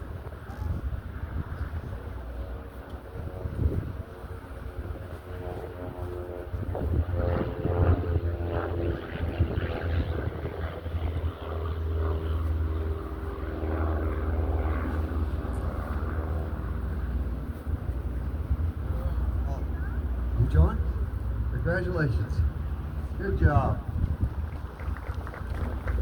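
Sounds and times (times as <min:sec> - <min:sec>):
engine running: 0:01.8 - 0:26.0.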